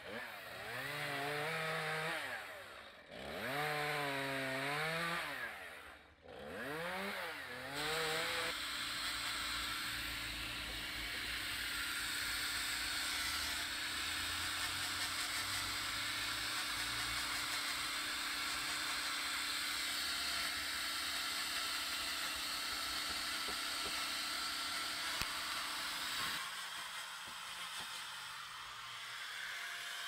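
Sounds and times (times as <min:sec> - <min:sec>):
angle grinder grinding wood: 0:00.0 - 0:30.0.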